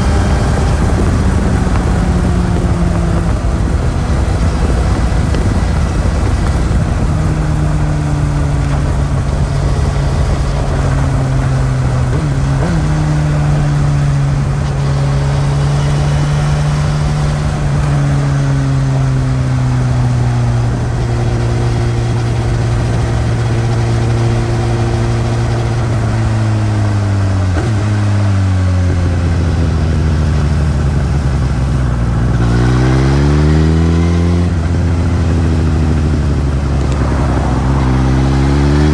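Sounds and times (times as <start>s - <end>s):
wind noise: 0.0s - 30.0s, 31.0s - 38.9s
motorcycle engine: 0.0s - 38.9s
road noise: 0.0s - 38.9s.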